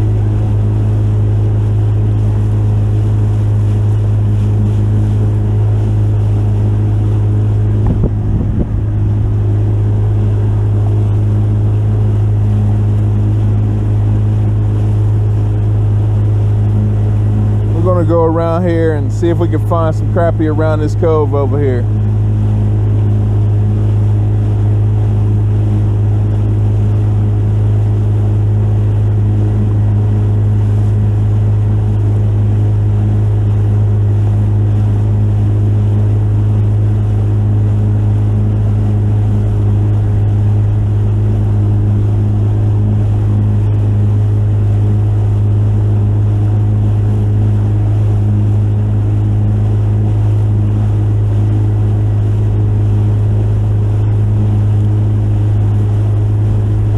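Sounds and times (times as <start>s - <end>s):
boat motor droning: 0.0s - 56.9s.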